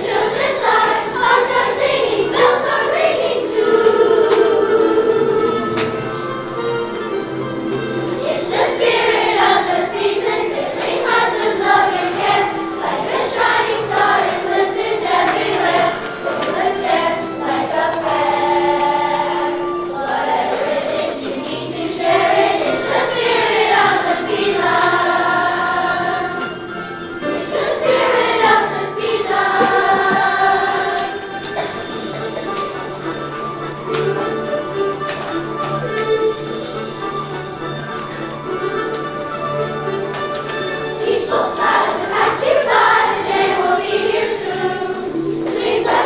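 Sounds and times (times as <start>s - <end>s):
children's choir singing: 0.0s - 46.0s
instrumental accompaniment: 0.0s - 46.0s.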